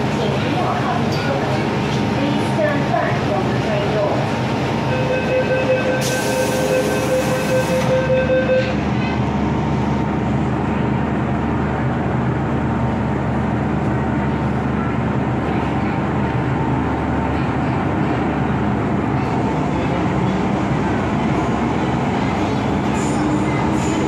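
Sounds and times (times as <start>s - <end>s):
train running with low hum: 0.0s - 24.0s.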